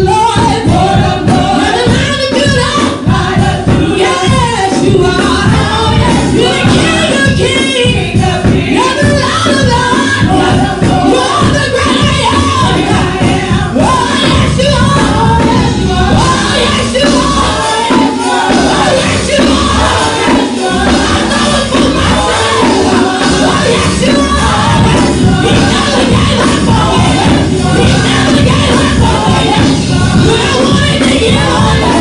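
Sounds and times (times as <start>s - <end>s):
church band playing: 0.0s - 32.0s
congregation and choir singing: 0.0s - 32.0s.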